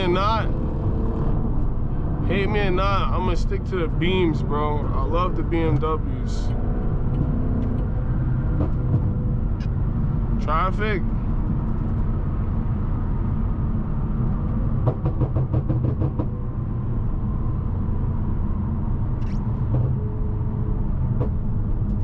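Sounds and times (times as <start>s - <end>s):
car engine low rumble: 0.0s - 22.0s
road noise: 0.0s - 22.0s.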